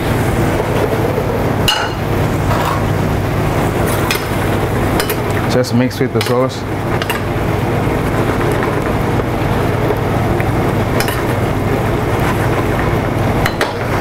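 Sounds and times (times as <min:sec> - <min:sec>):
gas range and ventilation roar: 0:00.0 - 0:14.0.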